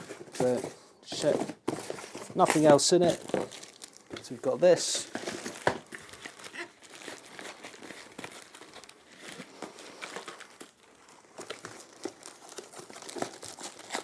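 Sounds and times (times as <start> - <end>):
cardboard and plastic crinkling: 0.0 - 14.0.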